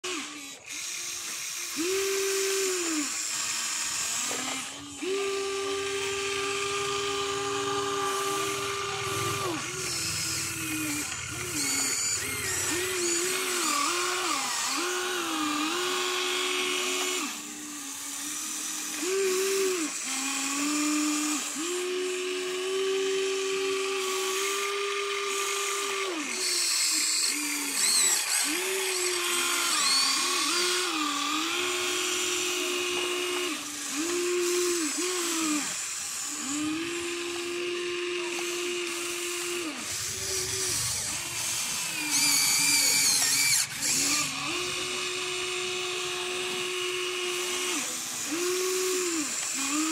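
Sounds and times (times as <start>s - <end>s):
toy excavator electric motors whining: 0.0s - 49.9s.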